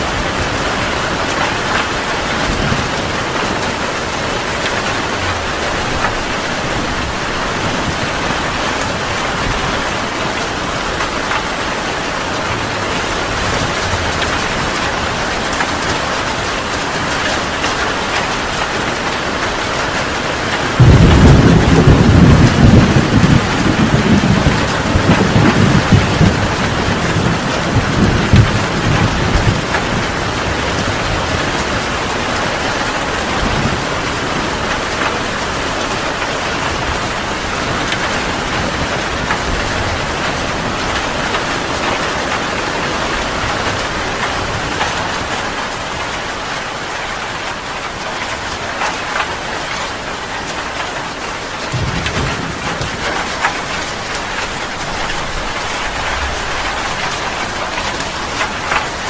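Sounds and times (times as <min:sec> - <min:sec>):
low thunder rumbling: 0:00.0 - 0:17.5, 0:20.1 - 0:46.5, 0:51.2 - 0:59.0
heavy rain: 0:00.0 - 0:59.0.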